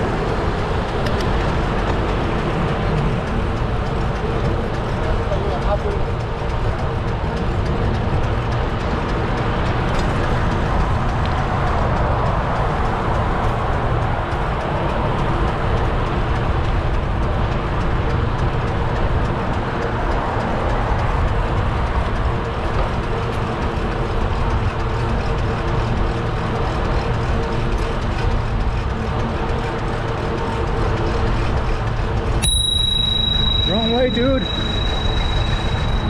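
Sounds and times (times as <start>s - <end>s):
road traffic engines: 0.0s - 36.0s
wind rumble: 0.0s - 36.0s.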